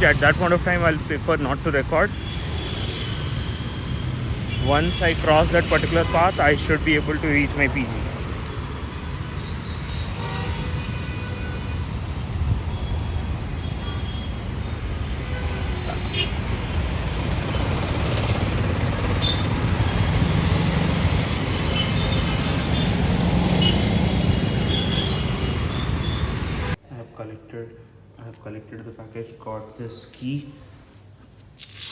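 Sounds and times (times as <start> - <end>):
road traffic rumble: 0.0 - 26.8.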